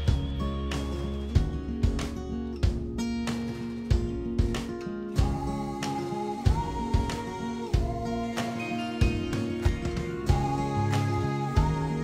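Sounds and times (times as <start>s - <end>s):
song with regular beats: 0.0s - 12.0s.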